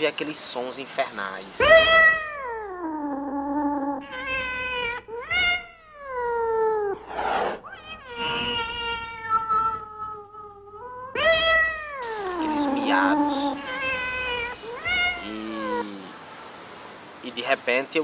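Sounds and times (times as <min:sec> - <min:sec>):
cats yowling: 0:01.6 - 0:16.2.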